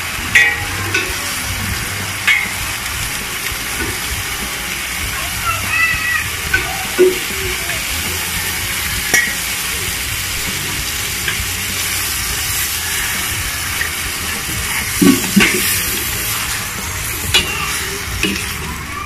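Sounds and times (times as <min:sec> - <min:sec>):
chicken sizzling in pan: 0:00.0 - 0:19.0.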